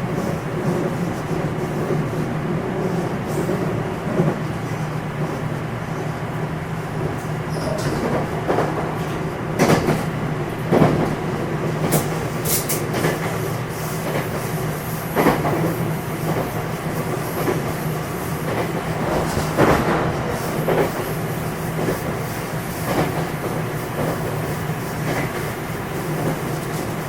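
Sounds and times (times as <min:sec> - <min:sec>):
electric train rumble and hum: 0:00.0 - 0:27.0.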